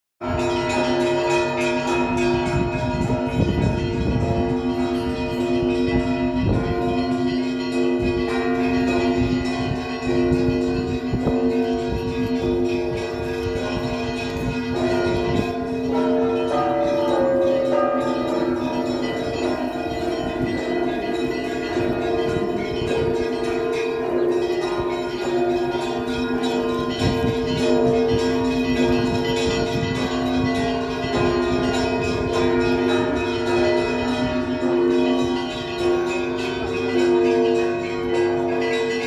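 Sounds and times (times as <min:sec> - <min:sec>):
church bells pealing: 0:00.2 - 0:39.0.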